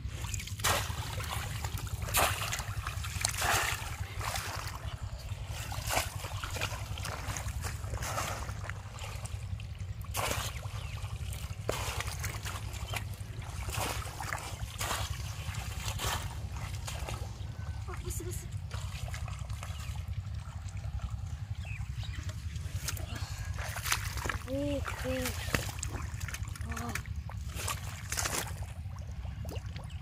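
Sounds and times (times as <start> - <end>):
muddy water splashing: 0.0 - 30.0
steady low rumble: 0.0 - 30.0.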